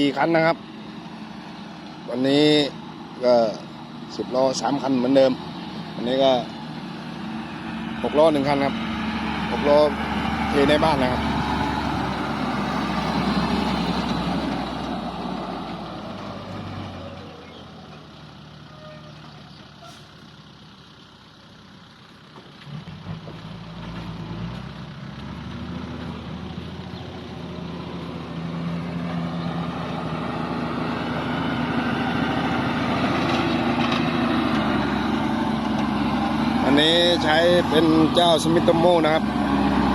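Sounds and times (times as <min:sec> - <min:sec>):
truck engines running: 0:00.0 - 0:39.9.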